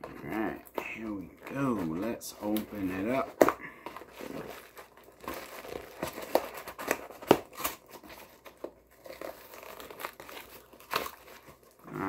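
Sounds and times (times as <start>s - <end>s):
cardboard packaging tearing: 0.0s - 12.0s.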